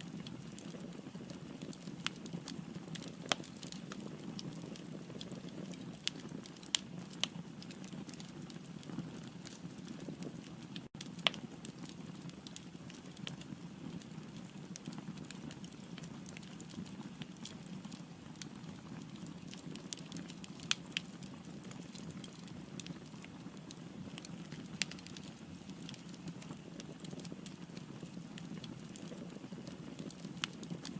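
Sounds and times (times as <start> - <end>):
firewood crackling and popping: 0.0 - 30.9.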